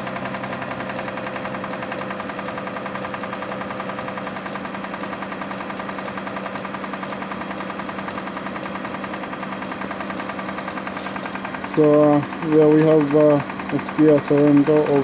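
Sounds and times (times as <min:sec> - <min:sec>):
car engine idling with knocking: 0:00.0 - 0:15.0.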